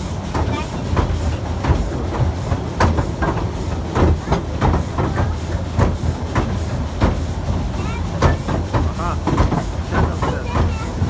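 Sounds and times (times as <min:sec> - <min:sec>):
steam train rumbling on track: 0:00.0 - 0:11.0
train wheels clattering: 0:00.0 - 0:11.0.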